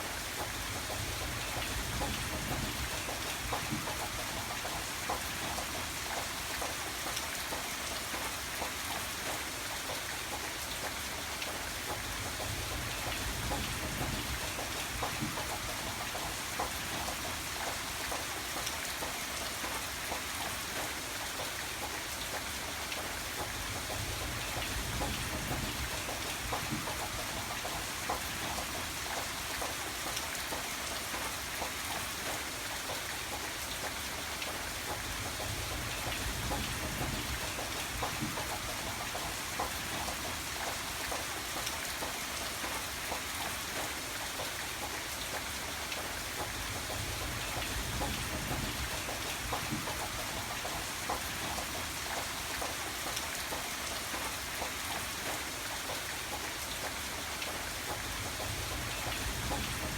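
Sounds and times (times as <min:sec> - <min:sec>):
rain hiss: 0:00.0 - 0:59.9.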